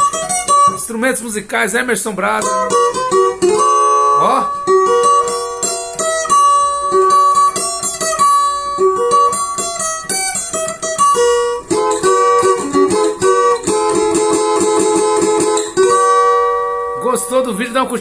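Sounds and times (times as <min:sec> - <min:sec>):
cavaquinho strumming: 0:00.0 - 0:18.0.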